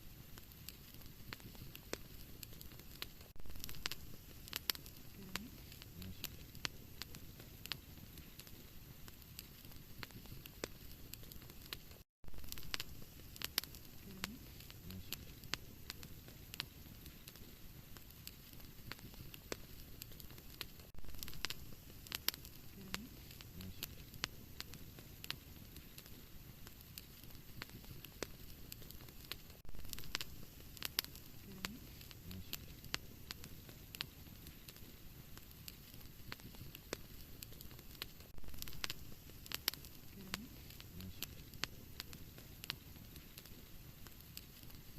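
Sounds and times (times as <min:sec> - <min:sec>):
low rushing of flame: 0:00.0 - 0:44.9
wood fire crackling and popping: 0:00.0 - 0:44.9.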